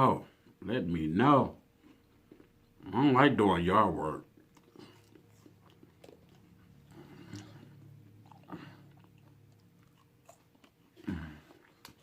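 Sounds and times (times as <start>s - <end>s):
chewing food: 1.8s - 12.0s.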